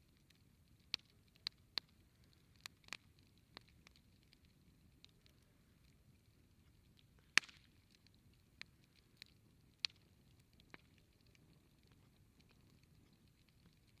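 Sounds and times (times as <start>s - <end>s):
burning wood popping: 0.0s - 14.0s
campfire crackling: 0.0s - 14.0s
faint low hiss: 0.0s - 14.0s.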